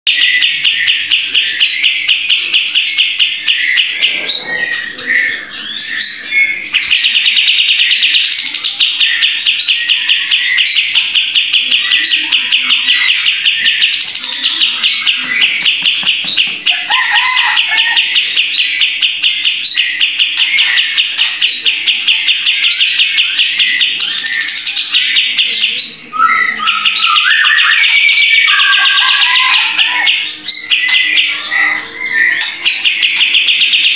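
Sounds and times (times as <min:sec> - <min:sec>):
bird singing a fast rattling trill: 0:05.6 - 0:33.9.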